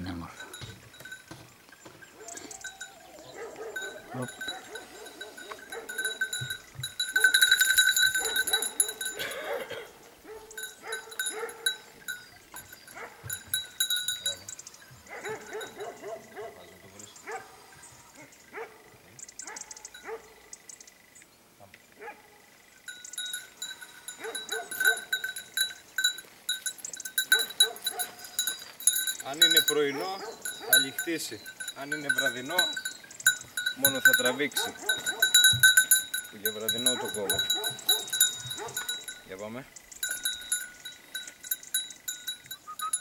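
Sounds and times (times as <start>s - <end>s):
metal animal bells jingling: 0.0s - 17.4s, 19.4s - 20.2s, 22.8s - 43.0s.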